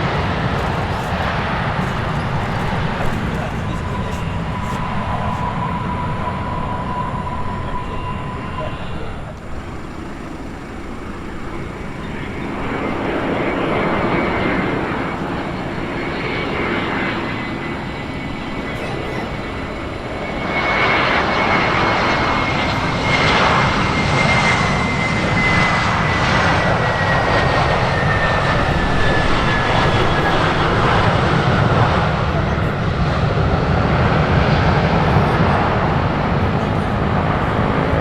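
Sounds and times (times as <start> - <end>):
high jet engine whine: 0.0 - 38.0
jet airliner roaring past: 0.0 - 38.0.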